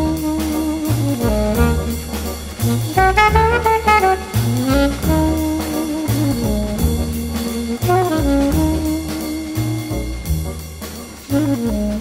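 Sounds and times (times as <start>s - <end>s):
jazz music with brass: 0.0s - 12.0s.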